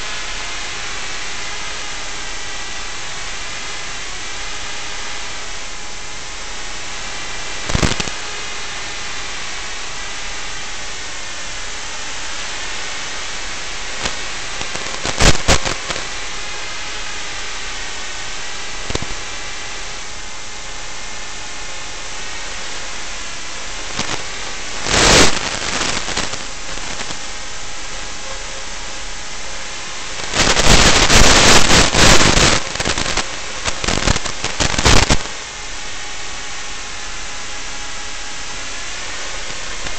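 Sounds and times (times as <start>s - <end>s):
loud crackling bursts: 0.0s - 39.9s
static hiss: 0.0s - 39.9s.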